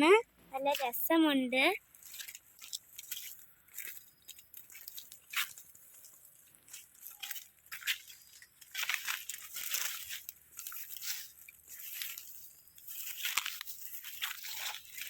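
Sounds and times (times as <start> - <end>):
dry leaves crunching and rustling: 1.8 - 15.0.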